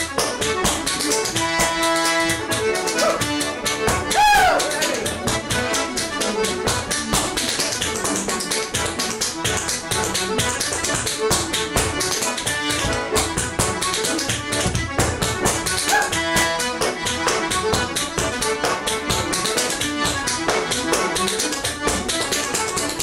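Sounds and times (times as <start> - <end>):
button accordion playing lively tune: 0.0 - 23.0.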